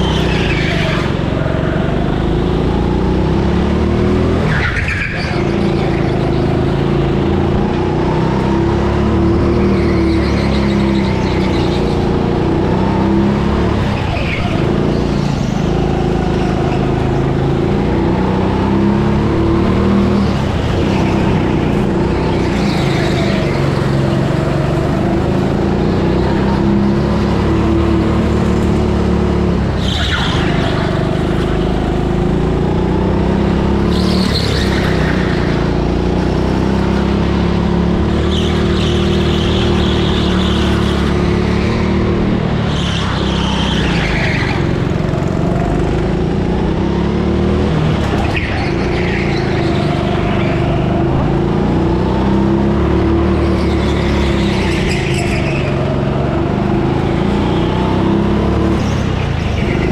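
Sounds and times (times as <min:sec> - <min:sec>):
go-kart motor running: 0:00.0 - 0:59.9.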